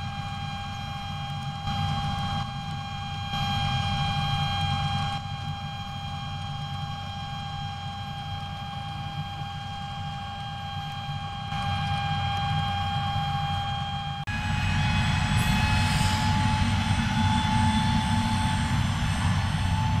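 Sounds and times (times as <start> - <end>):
steady high-pitched whine: 0.0 - 20.0.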